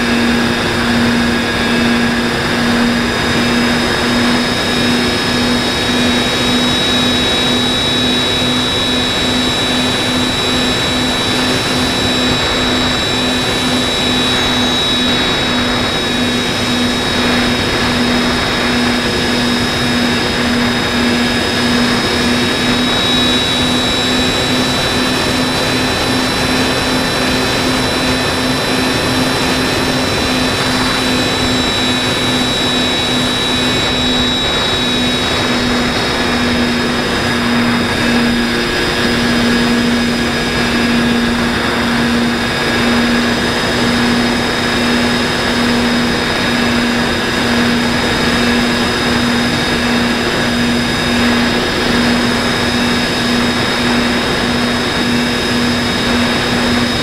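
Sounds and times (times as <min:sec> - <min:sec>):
model aircraft motor whine: 0:00.0 - 0:57.0
rushing air: 0:09.1 - 0:57.0.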